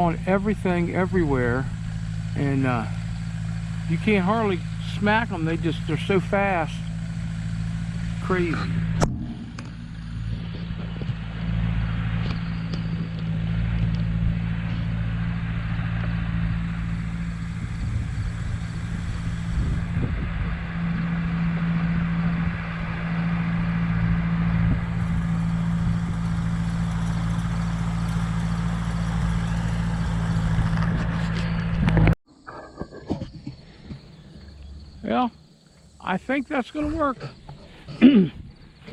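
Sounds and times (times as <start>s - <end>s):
earthmoving machine engine running: 0.0s - 32.2s.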